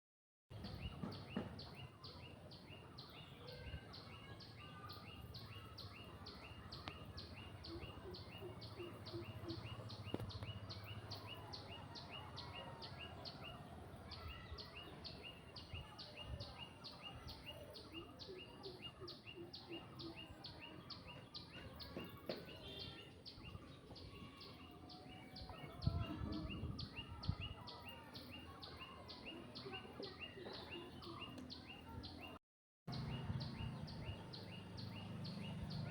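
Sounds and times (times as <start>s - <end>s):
birds chirping: 0.5s - 35.9s.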